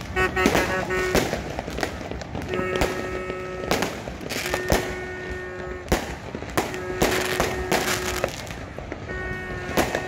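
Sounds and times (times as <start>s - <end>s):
horn blowing long notes: 0.0s - 1.3s, 2.4s - 10.0s
fireworks bangs: 0.0s - 10.0s.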